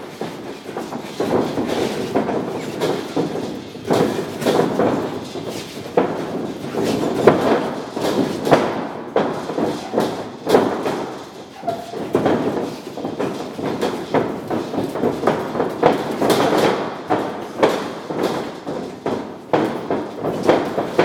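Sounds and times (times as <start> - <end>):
bare feet stamping on ring floor: 0.0 - 21.0.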